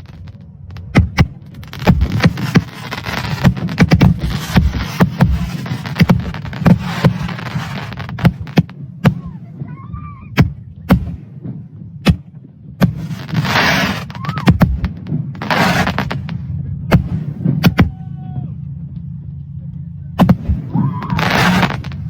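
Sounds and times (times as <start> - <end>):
firework crackling: 0.0 - 18.0, 20.2 - 22.0
firework bangs: 0.0 - 18.2, 20.2 - 22.0.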